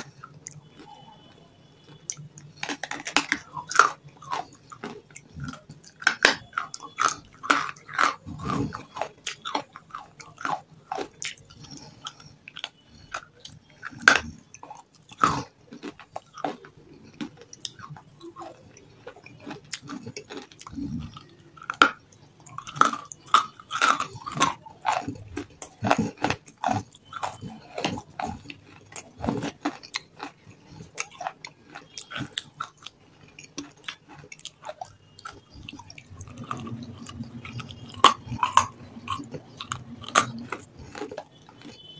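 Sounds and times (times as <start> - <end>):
crunchy chewing: 0.0 - 41.9
wet sticky mouth sounds: 1.8 - 41.9.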